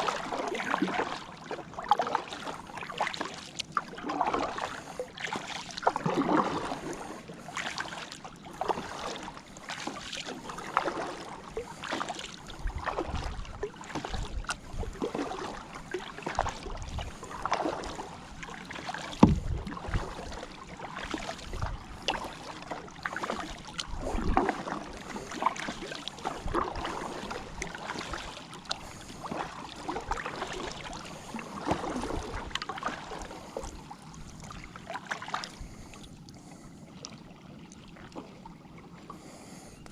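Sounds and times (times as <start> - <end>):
paddle splashing in water: 0.0 - 39.8.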